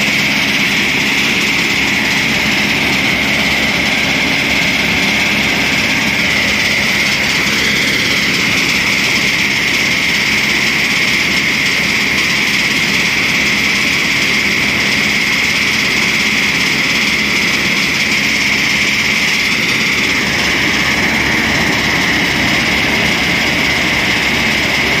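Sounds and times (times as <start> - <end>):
thresher machine droning: 0.0 - 25.0.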